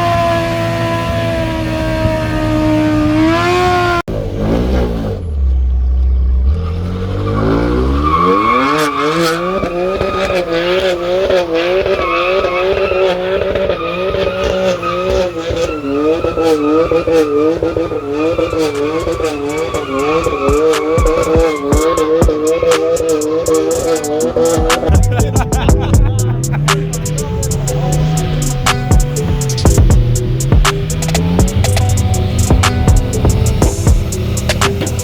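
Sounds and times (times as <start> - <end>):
car engine revving hard: 0.0 - 5.3, 6.4 - 35.0.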